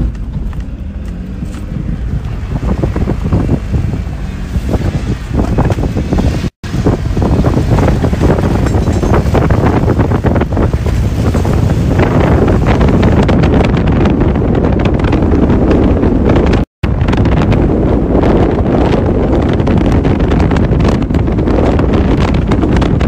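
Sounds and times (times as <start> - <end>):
storm wind buffeting microphone: 0.0 - 23.0.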